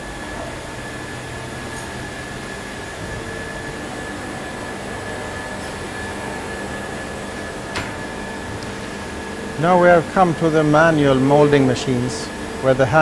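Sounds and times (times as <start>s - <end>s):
factory machinery drone: 0.0s - 13.0s
thin steady whine: 0.0s - 13.0s.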